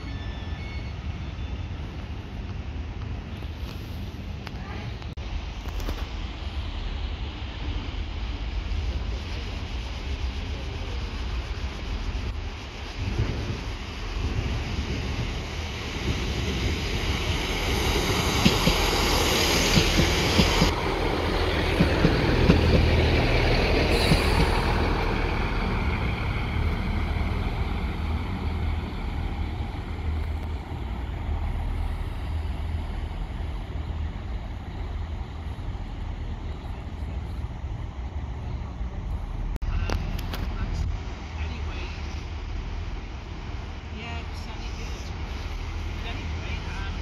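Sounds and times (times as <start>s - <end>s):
train passing: 0.0s - 47.0s.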